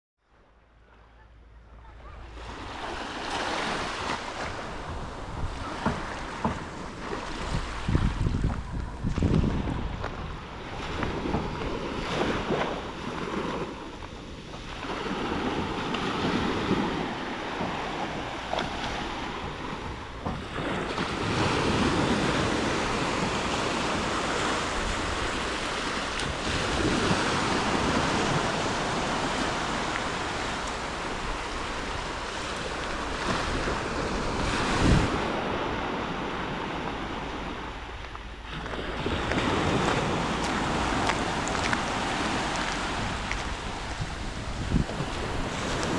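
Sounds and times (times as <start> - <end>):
surf breaking on beach: 2.0 - 45.9
wind buffeting microphone: 3.3 - 45.9.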